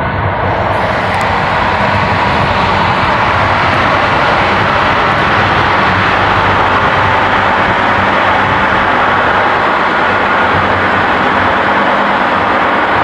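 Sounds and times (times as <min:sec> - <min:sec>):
rush of air: 0:00.0 - 0:13.0
train wheels rolling on rails: 0:00.0 - 0:13.0.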